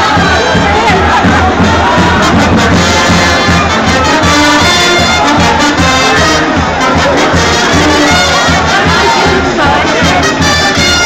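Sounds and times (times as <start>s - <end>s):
brass band playing: 0.0s - 11.0s
loud crowd noise: 0.0s - 11.0s.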